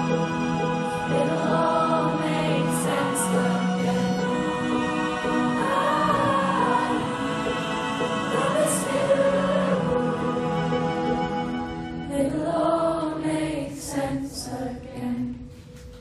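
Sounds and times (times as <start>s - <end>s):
violin and cello: 0.0s - 13.4s
vocal harmonies: 0.0s - 15.8s.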